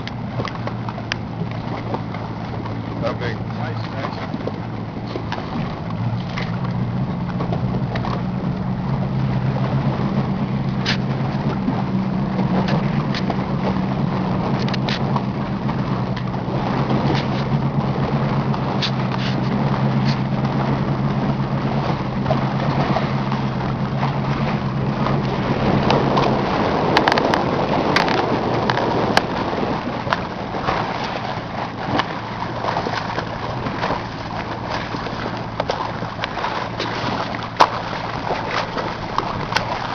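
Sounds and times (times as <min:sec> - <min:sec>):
motorboat engine humming: 0:00.0 - 0:39.9.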